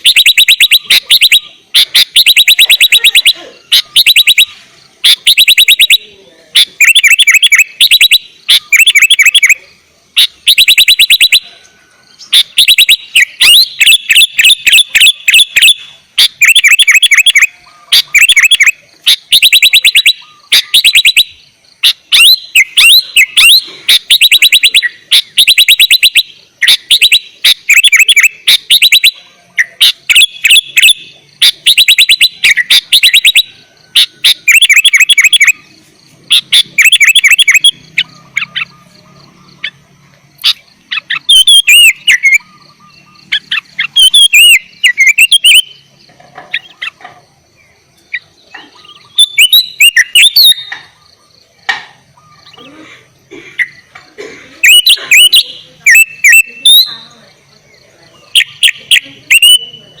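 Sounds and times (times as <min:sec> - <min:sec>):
bird singing whistled phrases: 0:00.0 - 0:39.8, 0:40.4 - 0:47.0, 0:47.6 - 0:51.3, 0:52.2 - 0:52.8, 0:54.6 - 1:00.0.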